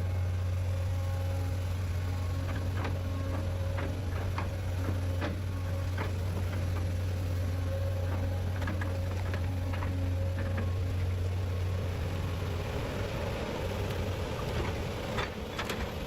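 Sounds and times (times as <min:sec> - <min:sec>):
machine engine humming: 0:00.0 - 0:16.0.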